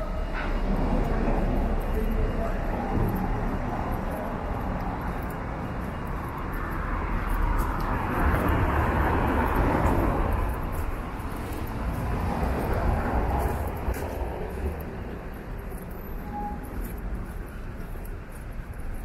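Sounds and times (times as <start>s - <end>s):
cars passing on cobblestones: 0.0s - 19.0s.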